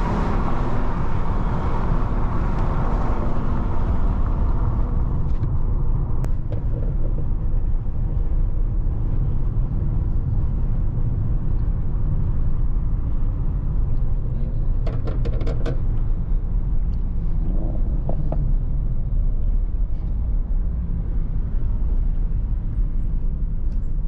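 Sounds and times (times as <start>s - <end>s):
car engine low rumble: 0.0s - 24.0s
road noise: 0.0s - 24.0s.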